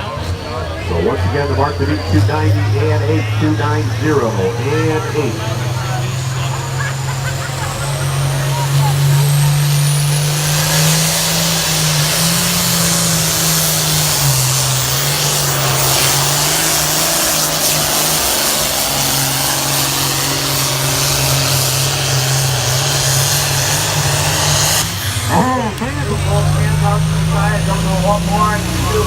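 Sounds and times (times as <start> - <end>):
vehicle engine running at high revs: 0.0 - 29.0.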